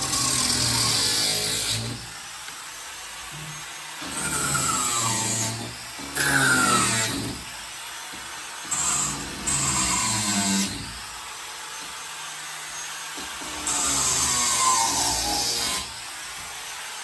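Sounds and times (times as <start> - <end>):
angle grinder cutting nails: 0.0 - 16.8.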